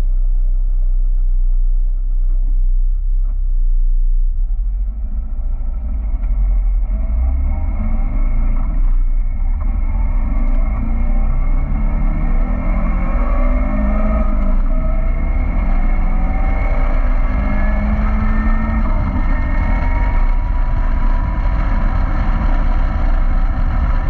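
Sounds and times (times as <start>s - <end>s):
car engine idling and accelerating: 0.0s - 24.0s.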